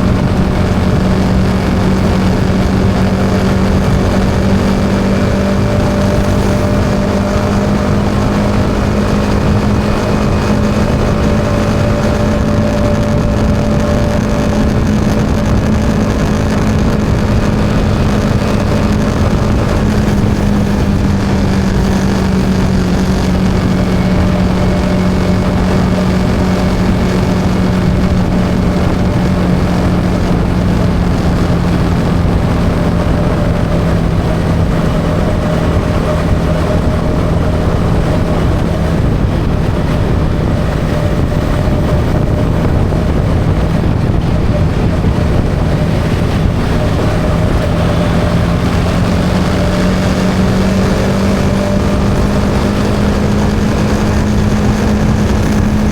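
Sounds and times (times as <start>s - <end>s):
motorcycle engine cruising: 0.0s - 55.9s
road and wind noise: 0.0s - 55.9s.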